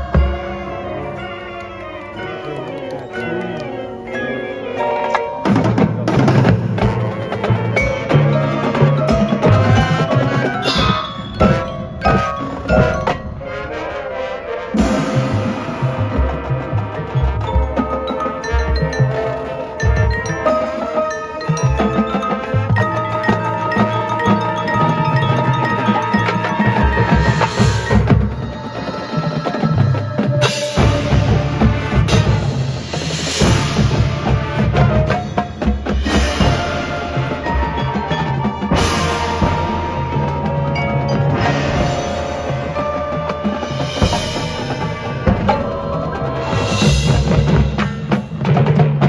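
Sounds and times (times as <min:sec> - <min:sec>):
drums and percussion: 0:00.0 - 0:49.0
marching band playing: 0:00.0 - 0:49.0.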